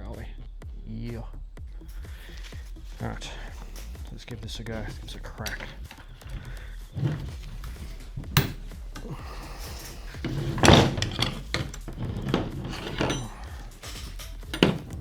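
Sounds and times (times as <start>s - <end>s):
metal parts knocking and rattling: 1.8s - 15.0s
metal clunk: 1.9s - 15.0s.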